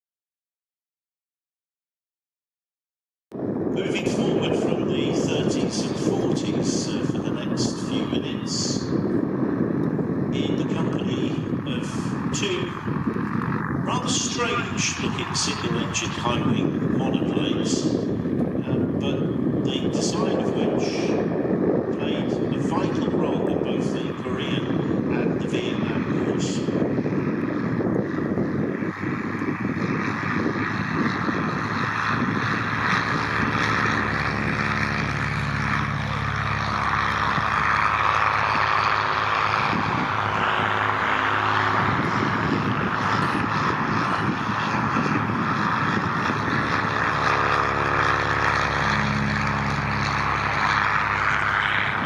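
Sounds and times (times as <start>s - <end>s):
propeller aircraft droning: 3.3s - 52.0s.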